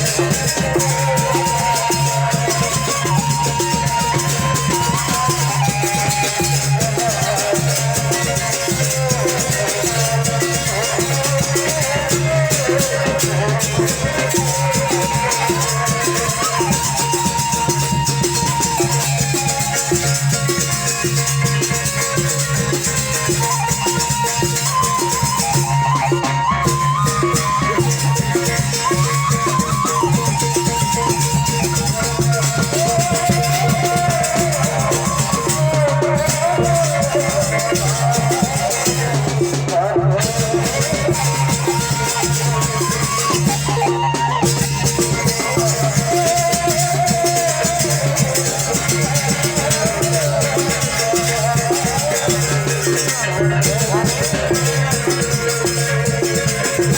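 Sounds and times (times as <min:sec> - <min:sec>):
drums and rattles beat: 0:00.0 - 0:56.9
high melody: 0:00.0 - 0:56.9.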